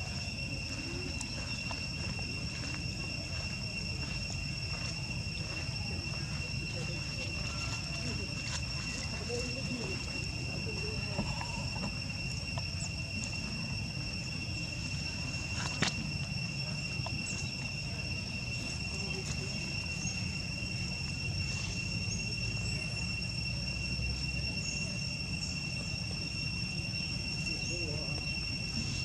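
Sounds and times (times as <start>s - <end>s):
high-pitched insect drone: 0.0s - 29.0s
low outdoor rumble: 0.0s - 29.0s.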